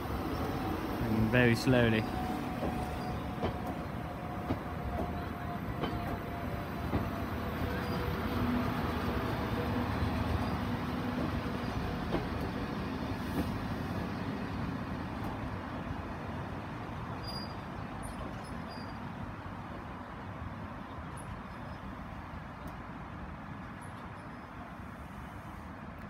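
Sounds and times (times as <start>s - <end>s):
train rolling slowly: 0.0s - 26.0s.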